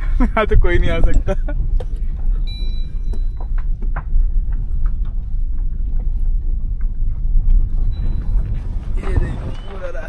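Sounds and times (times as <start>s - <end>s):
car driving on rough road: 0.0s - 10.0s
vehicle knocks and rattles: 0.0s - 10.0s.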